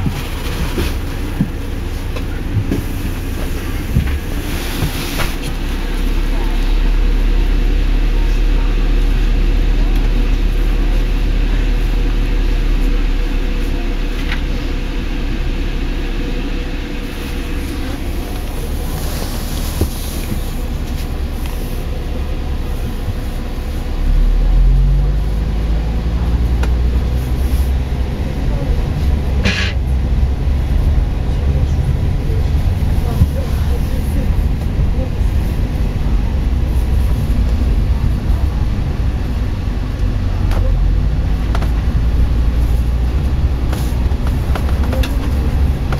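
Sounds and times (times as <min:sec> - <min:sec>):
bus engine and road rumble: 0:00.0 - 0:45.9.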